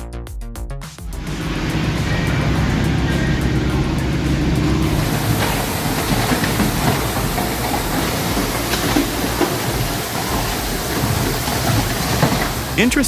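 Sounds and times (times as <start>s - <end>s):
industrial shredder grinding: 1.2s - 12.9s.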